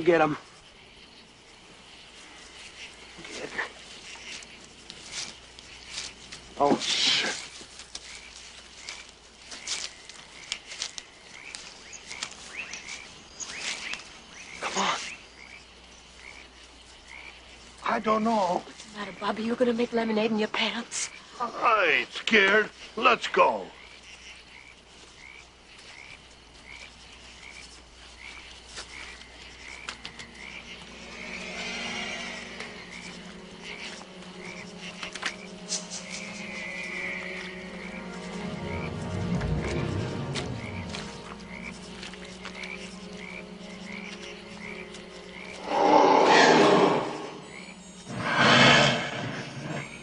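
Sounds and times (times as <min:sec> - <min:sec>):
rustles and snaps in undergrowth: 0:00.0 - 0:20.8, 0:22.2 - 0:31.4, 0:32.5 - 0:45.6
frogs chirping: 0:00.0 - 0:50.0.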